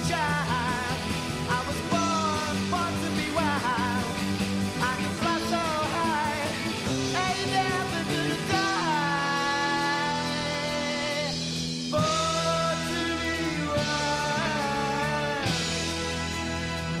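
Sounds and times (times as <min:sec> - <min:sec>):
bass guitar: 0:00.0 - 0:17.0
drums: 0:00.0 - 0:17.0
wavering electric guitar lead: 0:00.0 - 0:17.0.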